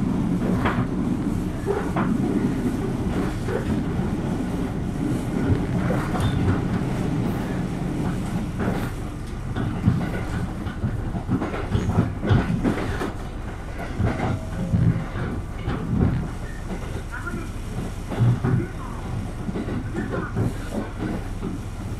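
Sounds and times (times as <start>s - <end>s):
railcar engine drone: 0.0s - 21.9s
wheels clacking over rail joints: 0.0s - 21.9s.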